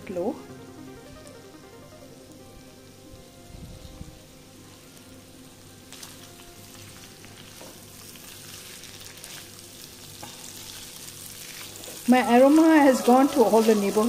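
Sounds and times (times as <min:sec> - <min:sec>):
food sizzling in a pan: 0:00.1 - 0:14.0.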